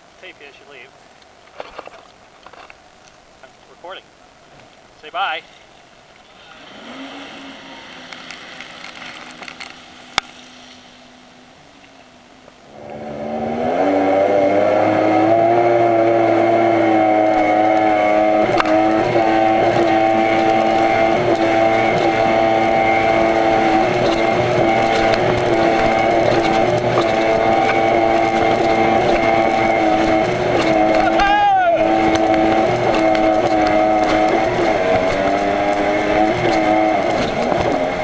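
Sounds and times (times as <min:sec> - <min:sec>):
jet ski engine: 0:06.2 - 0:38.0.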